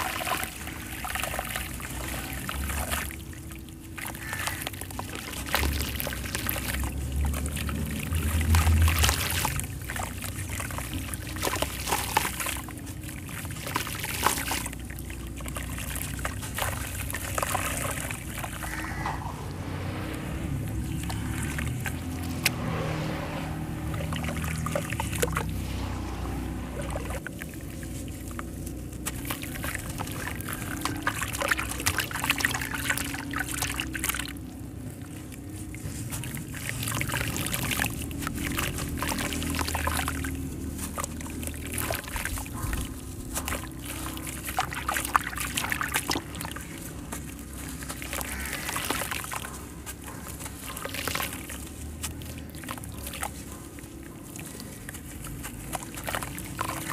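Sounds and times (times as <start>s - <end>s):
water sloshing and trickling: 0.0s - 56.9s.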